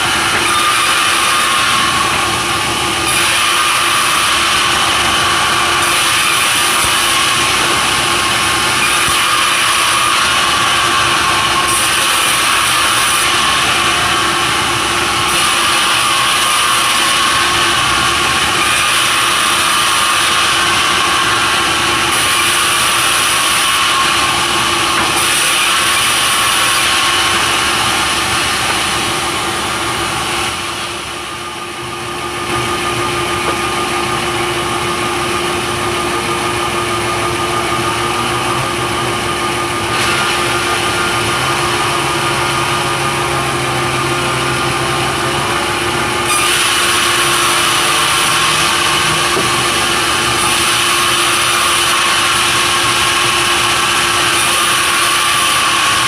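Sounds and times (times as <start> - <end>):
sawmill saw cutting timber: 0.0 - 56.0.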